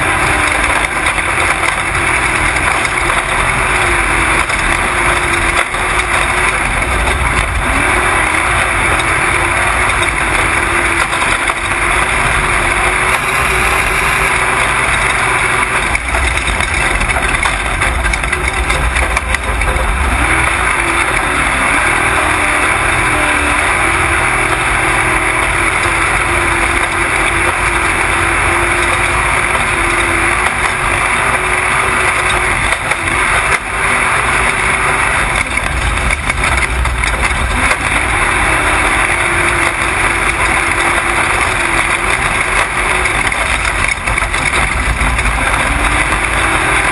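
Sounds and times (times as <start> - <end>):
truck engine running hard: 0.0 - 46.9
wind and road noise: 0.0 - 46.9.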